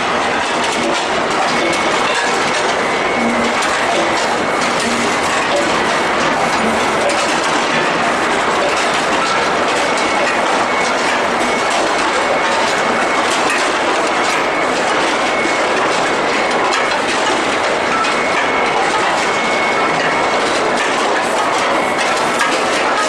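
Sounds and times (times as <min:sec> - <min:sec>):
clattering machinery: 0:00.0 - 0:23.0
metal parts rattling and rolling: 0:00.0 - 0:23.0.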